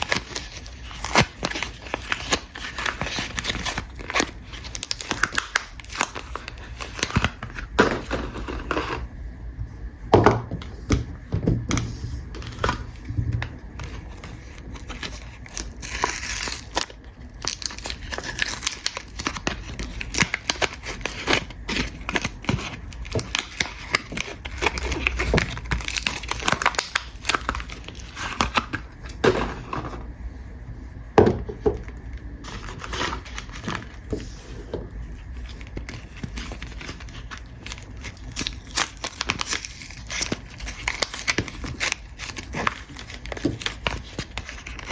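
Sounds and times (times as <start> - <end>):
packaging crinkling and tearing: 0.0 - 9.1, 11.8 - 29.9, 32.4 - 44.9.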